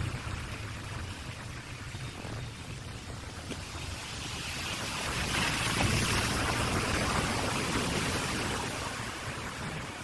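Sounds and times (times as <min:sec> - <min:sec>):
car tyres swishing through water: 0:00.0 - 0:10.0.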